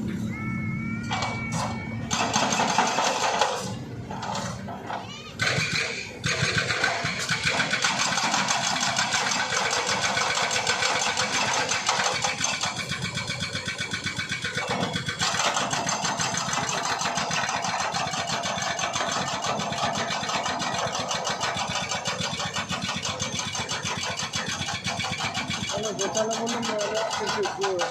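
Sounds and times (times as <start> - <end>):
small engine running: 0.0 - 27.9.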